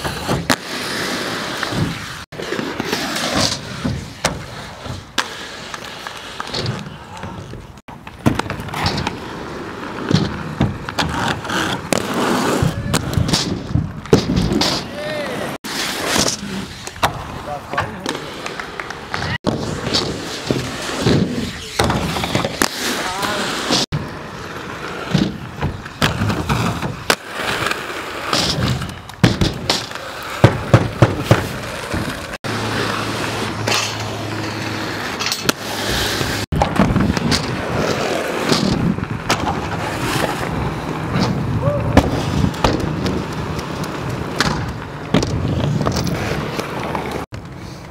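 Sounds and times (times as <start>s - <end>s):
skate wheels rolling on concrete: 0.0s - 47.9s.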